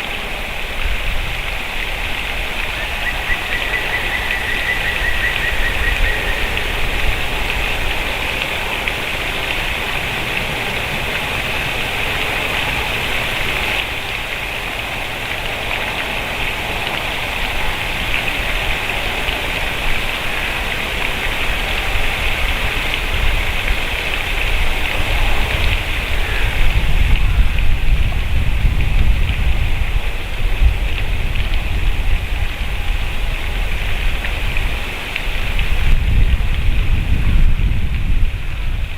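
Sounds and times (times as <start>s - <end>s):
outdoor hiss: 0.0s - 37.1s.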